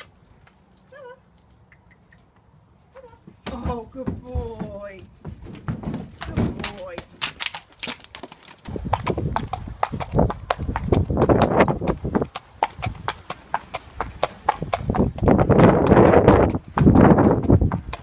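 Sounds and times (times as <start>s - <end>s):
horse hooves clip-clopping on road: 3.2s - 18.0s.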